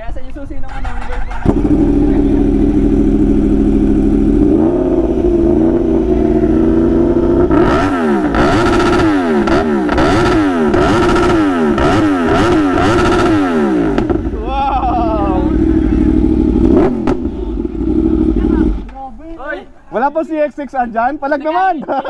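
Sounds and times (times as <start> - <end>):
motorcycle engine revving: 0.6 - 19.0.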